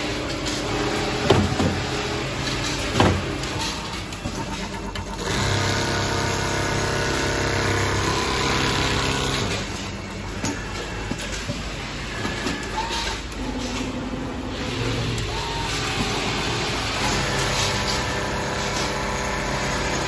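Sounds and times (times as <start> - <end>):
sewing machine running: 0.0 - 10.9, 13.9 - 20.0.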